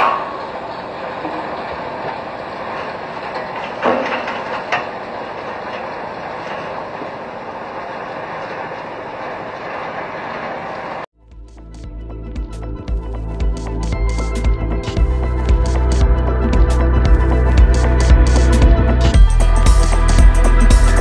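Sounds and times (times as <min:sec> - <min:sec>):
heavy machinery running: 0:00.0 - 0:11.1, 0:13.0 - 0:21.0.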